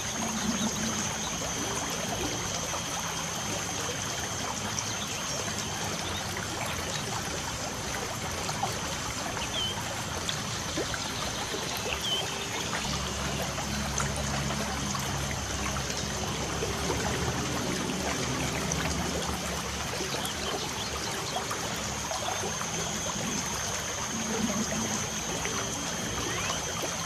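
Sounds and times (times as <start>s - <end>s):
trickle of water: 0.0s - 27.0s.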